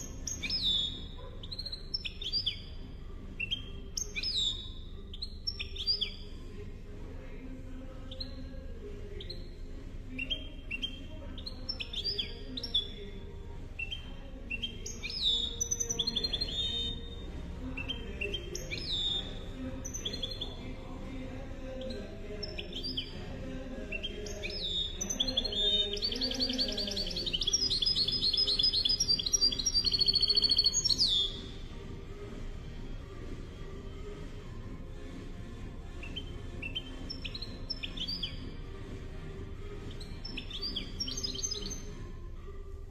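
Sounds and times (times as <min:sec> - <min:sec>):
bird singing chirps and trills: 0:00.0 - 0:06.6, 0:07.2 - 0:31.7, 0:35.8 - 0:38.7, 0:39.6 - 0:42.0.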